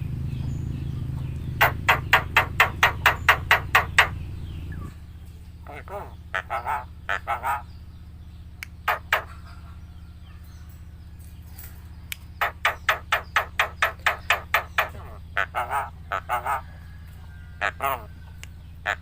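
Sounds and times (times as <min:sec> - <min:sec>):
myna calling: 0:01.0 - 0:10.2, 0:12.1 - 0:19.0.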